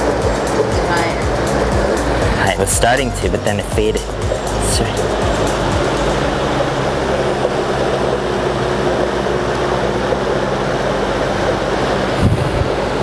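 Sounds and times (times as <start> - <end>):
fans rushing air: 0.0 - 13.0
low motor hum: 0.0 - 13.0.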